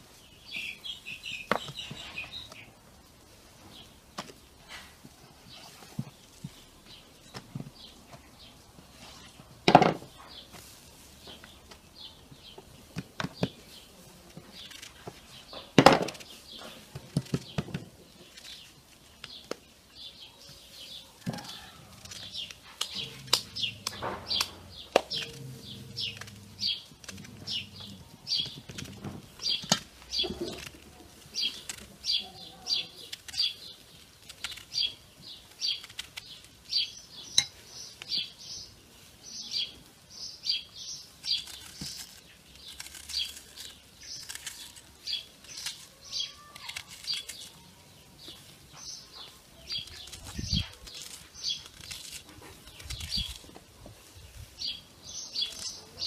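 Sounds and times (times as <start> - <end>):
small bird chirping: 0.1 - 2.8, 10.1 - 56.0.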